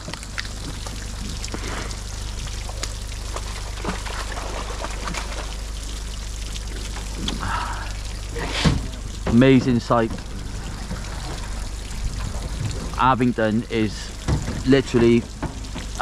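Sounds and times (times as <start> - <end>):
low steady hum: 0.0 - 16.0
water pouring and trickling: 0.0 - 16.0.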